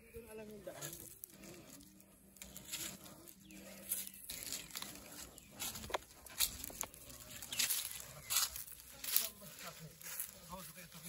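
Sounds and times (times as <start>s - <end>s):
footsteps on dry leaves: 0.2s - 11.0s.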